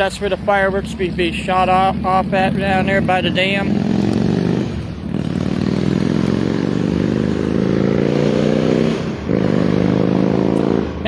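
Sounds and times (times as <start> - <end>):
vehicle engine accelerating hard: 0.0 - 11.0.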